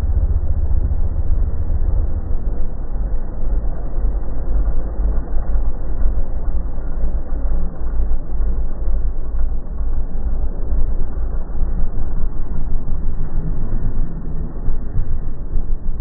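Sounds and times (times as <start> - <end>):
deep vehicle rumble: 0.0 - 16.0.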